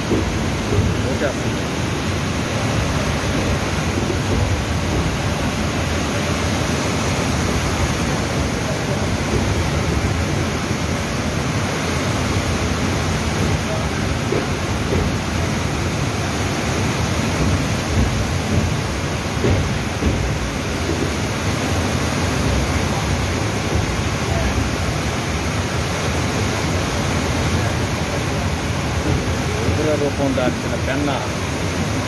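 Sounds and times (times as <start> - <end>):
train and floodwater roar: 0.0 - 32.0.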